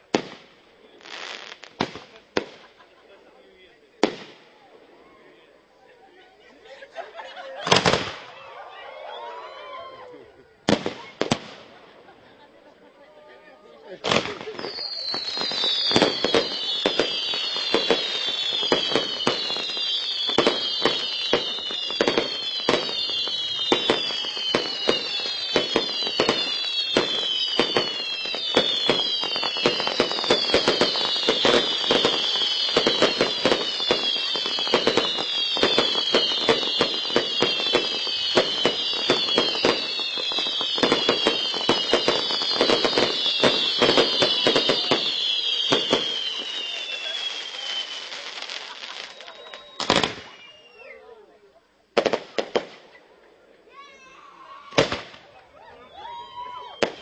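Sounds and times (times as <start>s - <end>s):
falling firework whistles: 0.0s - 2.9s, 7.5s - 12.4s, 14.0s - 51.1s, 54.0s - 57.0s
firework bangs and crackling: 0.0s - 5.3s, 7.6s - 12.5s, 13.8s - 50.9s, 51.9s - 53.0s, 54.6s - 57.0s.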